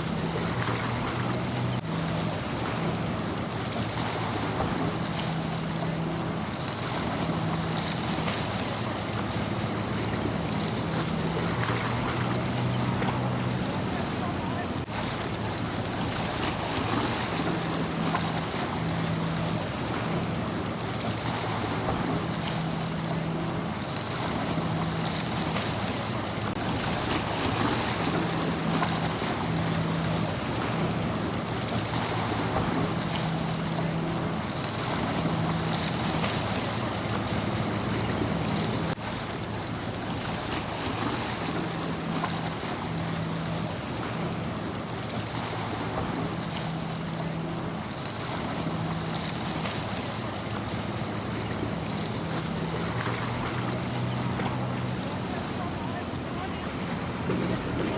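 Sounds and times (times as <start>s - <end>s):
boat engine drone: 0.0s - 57.9s
ocean waves washing: 0.0s - 57.9s.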